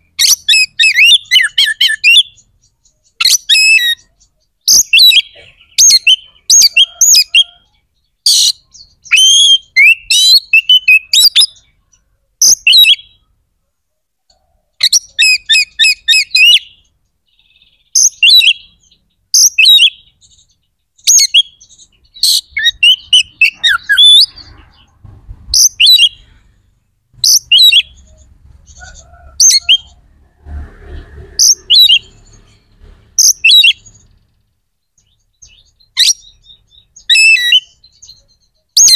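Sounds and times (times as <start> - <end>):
songbird whistled song: 0.0 - 13.4, 14.3 - 26.5, 27.2 - 30.0, 31.4 - 32.6, 33.2 - 38.9.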